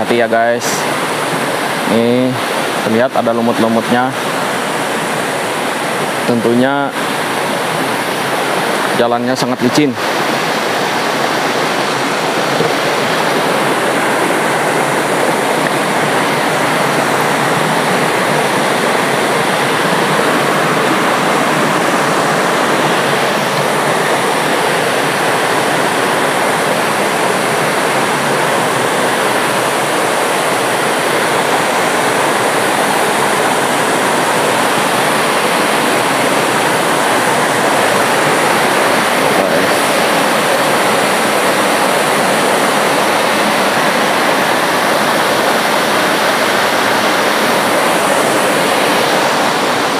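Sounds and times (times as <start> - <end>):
water rushing over rocks: 0.0 - 49.9.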